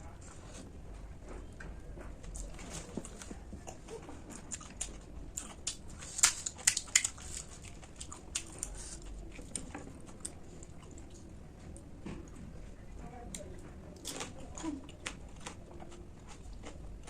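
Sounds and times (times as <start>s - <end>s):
chewing crisp food: 0.0s - 17.0s.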